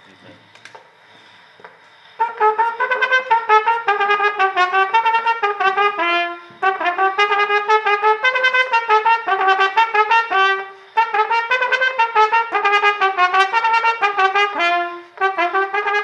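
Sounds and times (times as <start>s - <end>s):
cornet playing a quick tune: 2.2s - 16.0s.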